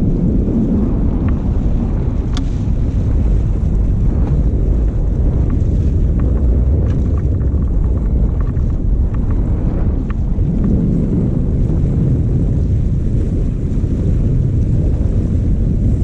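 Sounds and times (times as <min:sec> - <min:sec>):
motorboat running: 0:00.0 - 0:16.0
water splashing along hull: 0:00.0 - 0:16.0
wind noise on microphone: 0:00.0 - 0:16.0.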